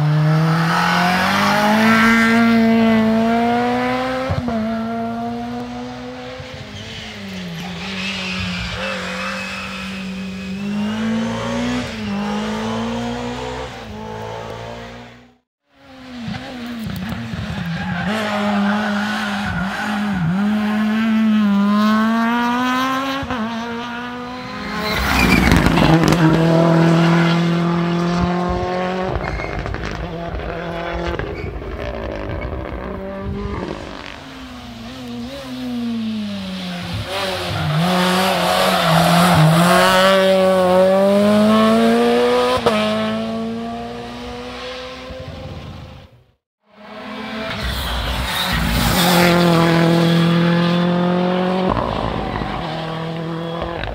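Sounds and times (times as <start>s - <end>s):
rally car engine at full throttle: 0.0s - 53.9s.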